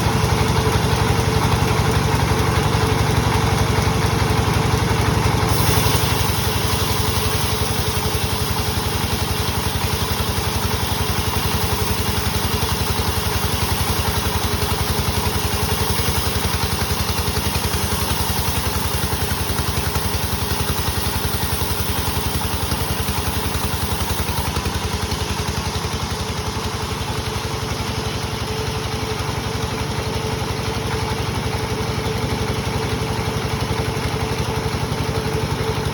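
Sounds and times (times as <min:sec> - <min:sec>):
sawmill saw running: 0:00.0 - 0:35.9.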